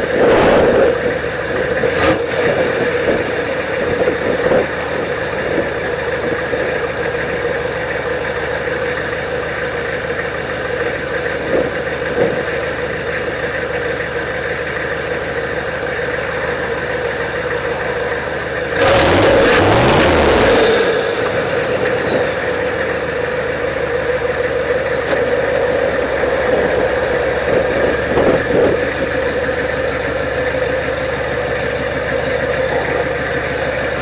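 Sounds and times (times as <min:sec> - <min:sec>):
diesel engine revving: 0:00.0 - 0:34.0.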